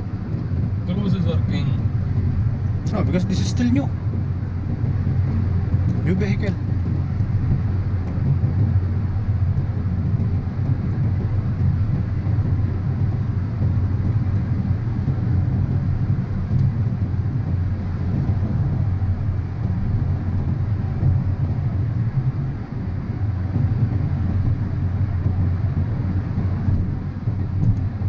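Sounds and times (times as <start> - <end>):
car road rumble inside cabin: 0.0 - 28.0.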